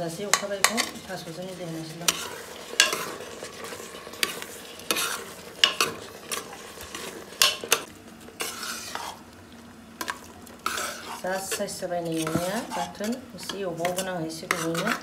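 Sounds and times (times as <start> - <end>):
spoon scraping a pot: 0.2 - 9.2, 10.0 - 15.0.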